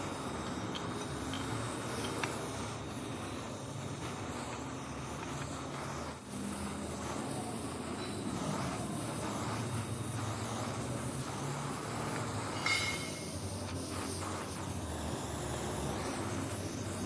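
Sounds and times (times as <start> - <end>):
workshop machine humming: 0.0 - 17.0.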